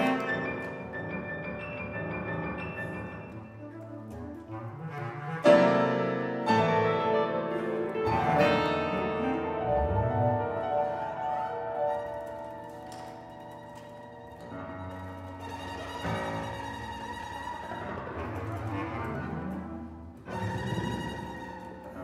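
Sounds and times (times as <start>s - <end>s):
chamber ensemble playing: 2.9s - 22.0s.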